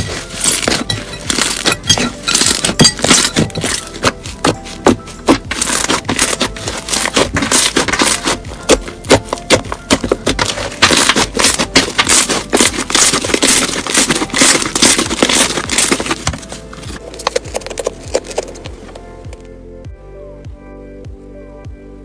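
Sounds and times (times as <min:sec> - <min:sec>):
slime crackling and popping: 0:00.0 - 0:18.6.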